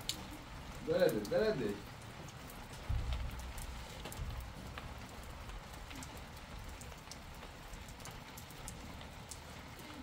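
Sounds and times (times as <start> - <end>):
rain falling on wet ground: 0.0 - 10.0
sharp drip ticks: 0.0 - 10.0.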